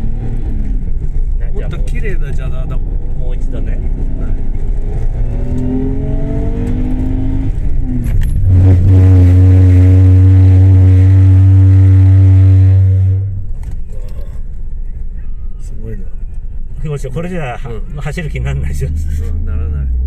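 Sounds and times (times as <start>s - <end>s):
brakes droning judder: 0.0s - 20.0s
car engine accelerating: 0.0s - 20.0s.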